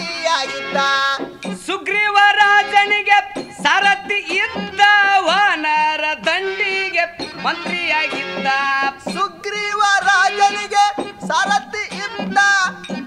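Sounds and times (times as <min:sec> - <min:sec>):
drum: 0:00.0 - 0:06.5, 0:07.1 - 0:13.0
harmonium melody: 0:00.0 - 0:13.0.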